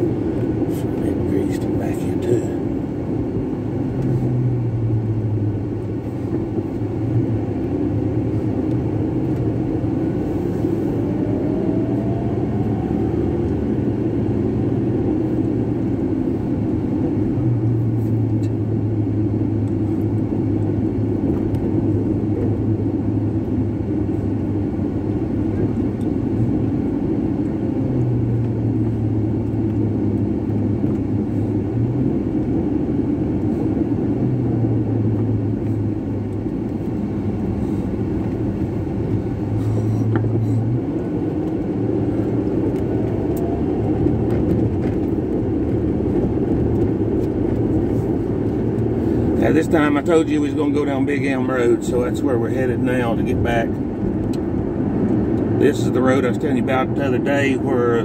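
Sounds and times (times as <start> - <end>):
car engine hum: 0.0 - 58.0
road noise rumble: 0.0 - 58.0.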